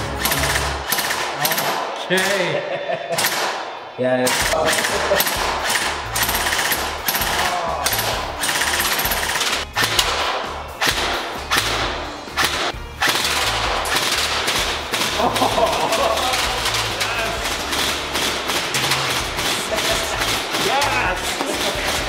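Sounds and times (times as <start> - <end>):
airsoft rifles firing automatic bursts: 0.2 - 2.4, 4.3 - 10.2, 12.4 - 22.0.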